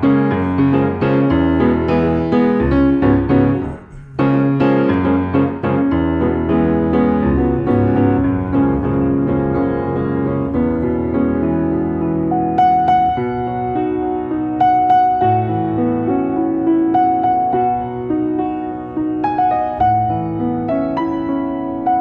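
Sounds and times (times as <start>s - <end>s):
jazz piano: 0.0s - 22.0s.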